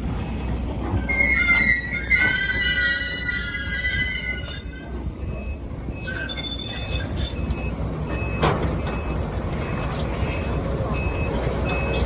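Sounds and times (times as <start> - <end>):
excavator engine rumble: 0.0 - 12.0
metal-on-metal squeals: 0.2 - 10.5.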